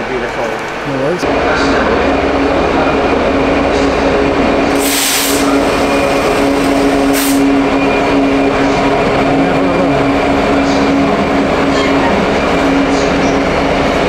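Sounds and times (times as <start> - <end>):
train running hum: 0.0 - 14.0.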